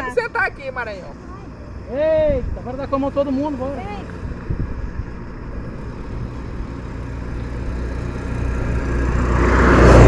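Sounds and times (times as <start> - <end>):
pickup truck approaching: 0.0 - 10.0.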